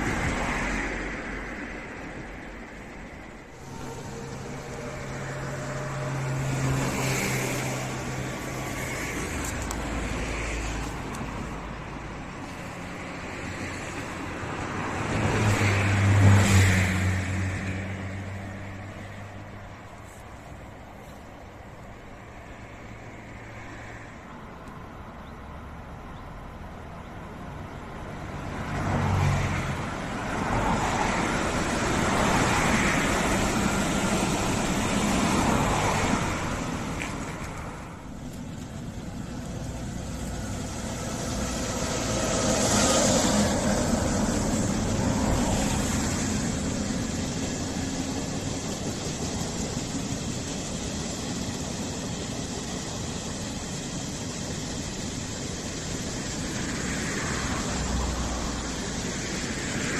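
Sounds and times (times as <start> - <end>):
train wheels rumbling on rails: 0.0 - 24.9, 26.7 - 59.9.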